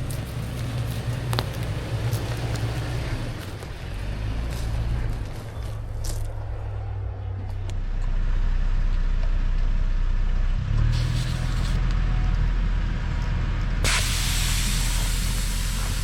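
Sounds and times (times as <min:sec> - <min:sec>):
pickup engine humming: 0:00.0 - 0:16.0.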